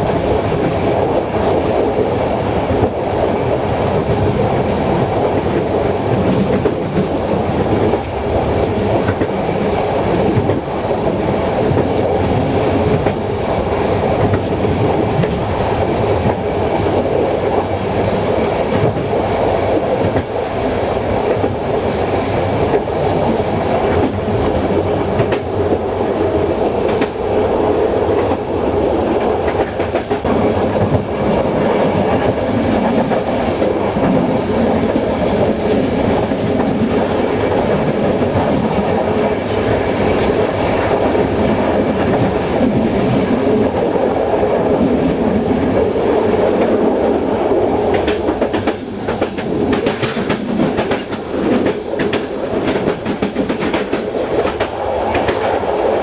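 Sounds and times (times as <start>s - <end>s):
rumble of train wheels on rails: 0.0s - 56.0s.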